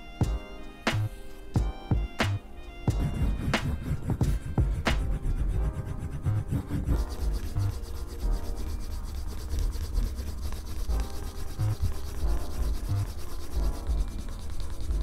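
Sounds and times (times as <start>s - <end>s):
rubbing leather belt edge: 2.2s - 15.0s.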